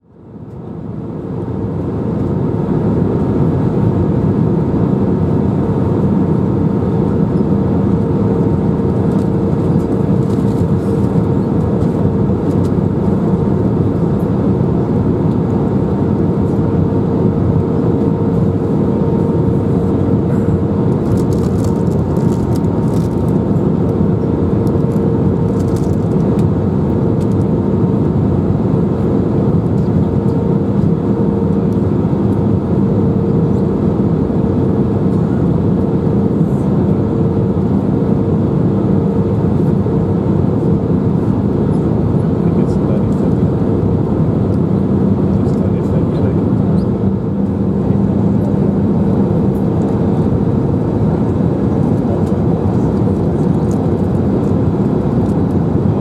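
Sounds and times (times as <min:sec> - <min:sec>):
airliner cabin engine roar: 0:00.0 - 0:56.0
constant hum: 0:00.1 - 0:56.0.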